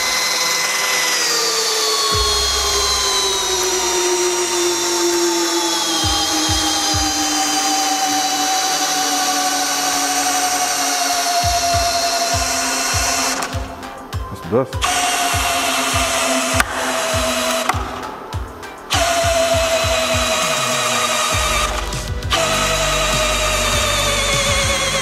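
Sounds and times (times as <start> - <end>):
hammer drill motor whine: 0.0 - 25.0.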